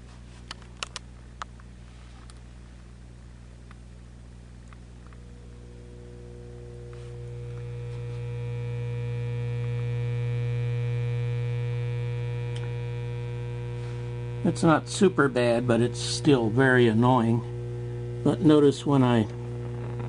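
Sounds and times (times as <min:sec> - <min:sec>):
radio mains hum: 0:03.6 - 0:20.0.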